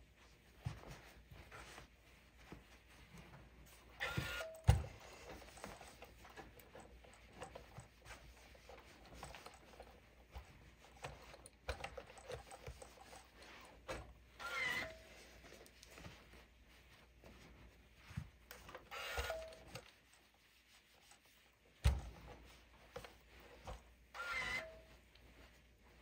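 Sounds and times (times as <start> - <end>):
soft handling rustles: 0.0 - 26.0.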